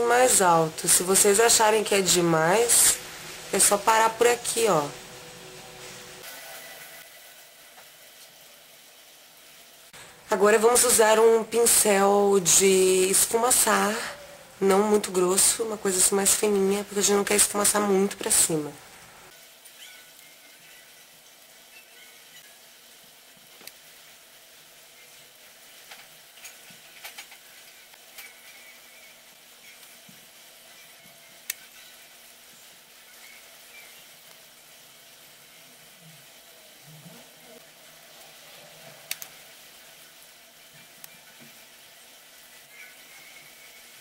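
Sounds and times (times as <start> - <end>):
faint room tone hiss: 0.0 - 44.0.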